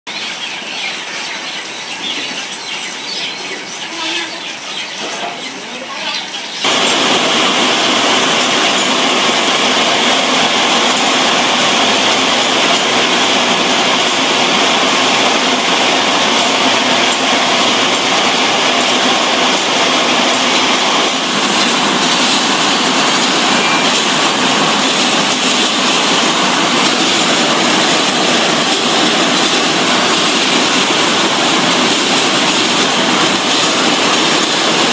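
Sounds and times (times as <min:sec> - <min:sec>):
loud steady rushing noise: 0:06.6 - 0:34.9
machinery clattering: 0:06.6 - 0:34.9.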